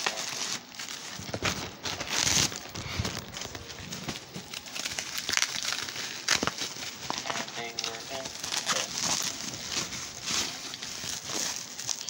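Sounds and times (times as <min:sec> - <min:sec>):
rustling on bedding: 0:00.8 - 0:11.9.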